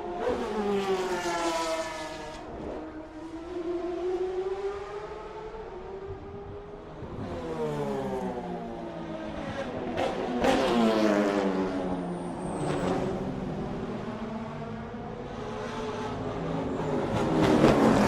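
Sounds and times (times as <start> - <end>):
race cars passing by: 0.0 - 18.0.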